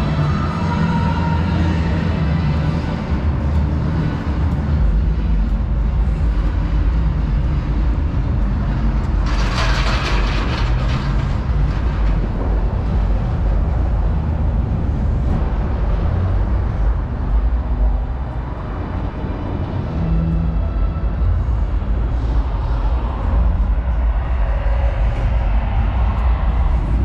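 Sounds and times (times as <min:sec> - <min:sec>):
low rumble of city noise: 0:00.0 - 0:27.0.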